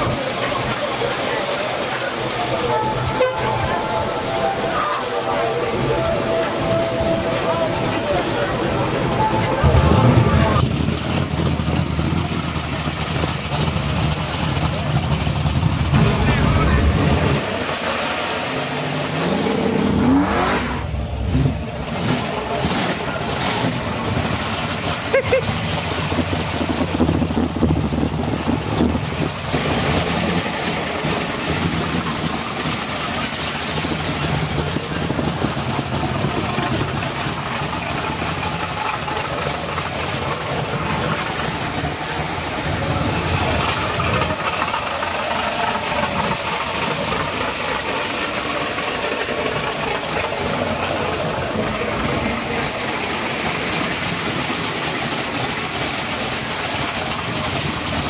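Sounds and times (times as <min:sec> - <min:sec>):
car engine revving and idling: 0:00.0 - 0:58.0
street noise: 0:00.0 - 0:58.0.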